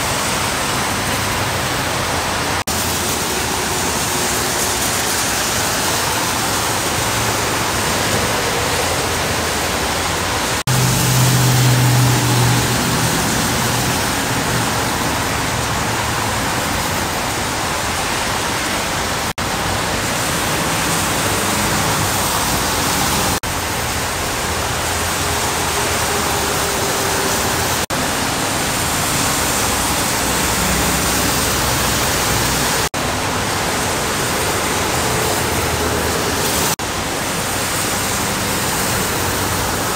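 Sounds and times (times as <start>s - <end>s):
heavy rain: 0.0s - 39.9s
truck engine drone: 0.0s - 39.9s
tyre spray from traffic: 0.0s - 39.9s.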